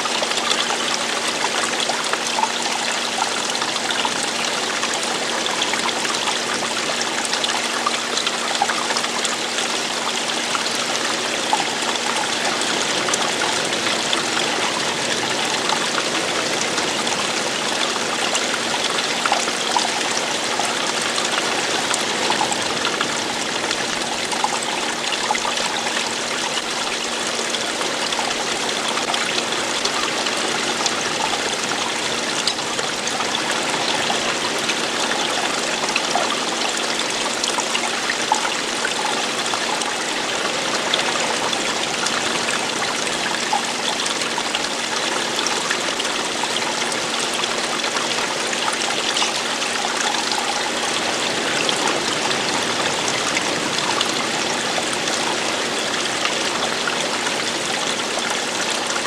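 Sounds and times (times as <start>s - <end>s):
water falling and splashing: 0.0s - 59.0s.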